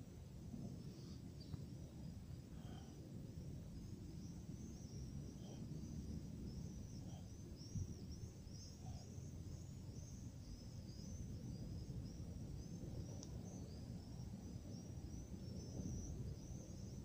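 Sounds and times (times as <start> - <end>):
low outdoor rumble: 0.0 - 17.0
small birds chirping: 0.9 - 17.0.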